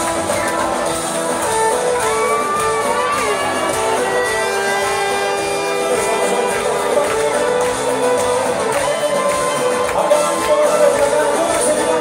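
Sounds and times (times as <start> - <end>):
live band music over sound system: 0.0 - 12.0.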